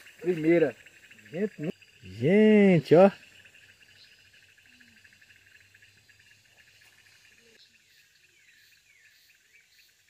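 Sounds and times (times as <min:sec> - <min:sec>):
insect trill: 0:00.0 - 0:10.0.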